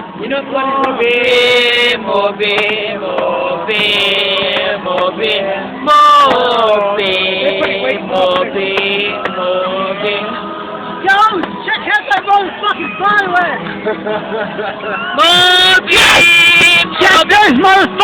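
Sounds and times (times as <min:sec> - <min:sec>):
men shouting: 0:00.0 - 0:18.0
men singing and chanting: 0:00.0 - 0:18.0.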